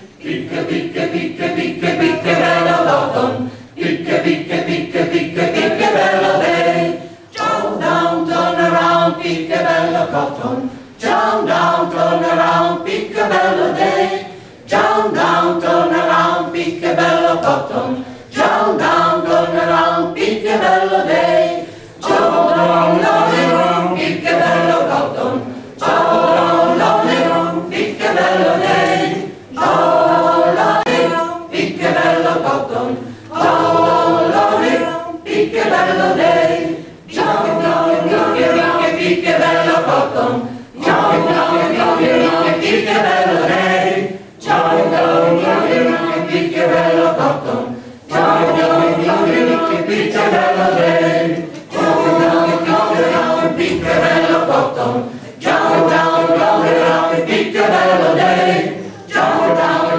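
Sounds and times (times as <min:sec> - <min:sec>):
mixed choir singing a cappella: 0:00.0 - 0:59.9.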